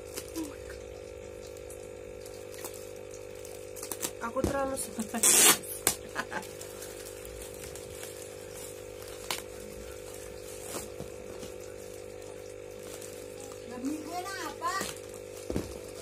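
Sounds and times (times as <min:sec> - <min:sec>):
aquarium air pump humming: 0:00.0 - 0:16.0.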